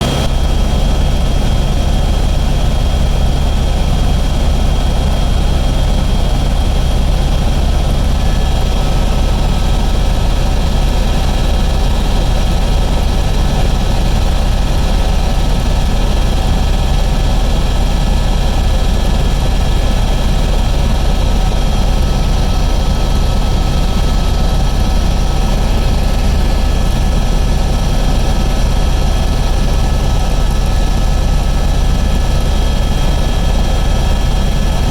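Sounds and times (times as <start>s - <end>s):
helicopter rotor drone: 0.0s - 34.9s
high turbine whine: 0.0s - 34.9s.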